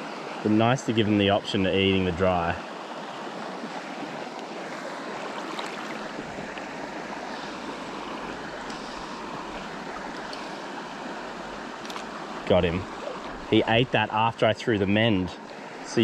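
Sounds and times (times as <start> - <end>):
river flowing over stones: 0.0 - 16.0.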